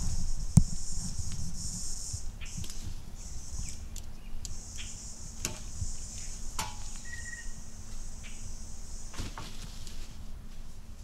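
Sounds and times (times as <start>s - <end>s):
high insect buzz: 0.0s - 10.2s
rustling in dry leaves: 0.0s - 11.0s.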